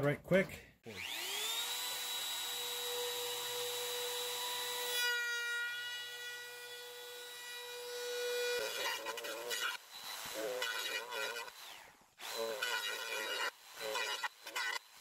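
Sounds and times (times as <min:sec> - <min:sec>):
router whining: 0:00.8 - 0:15.0.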